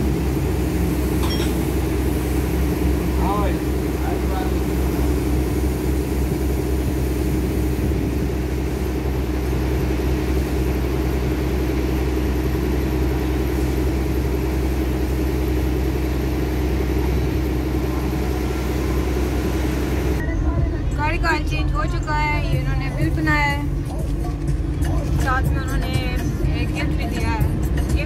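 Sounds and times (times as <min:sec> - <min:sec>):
motor rumbling and humming: 0:00.0 - 0:28.0.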